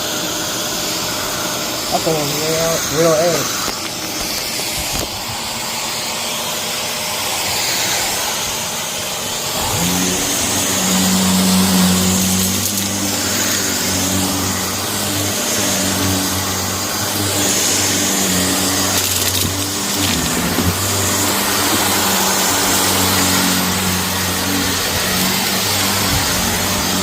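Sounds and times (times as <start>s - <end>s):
vacuum cleaner on carpet: 0.0s - 27.0s.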